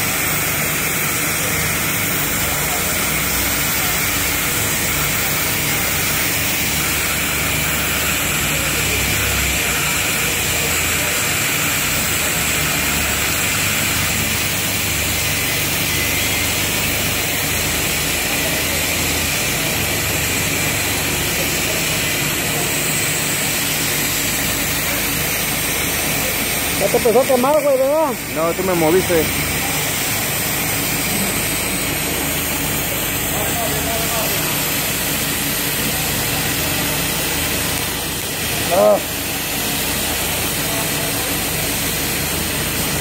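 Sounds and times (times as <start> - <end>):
welding arc hissing: 0.0 - 43.0.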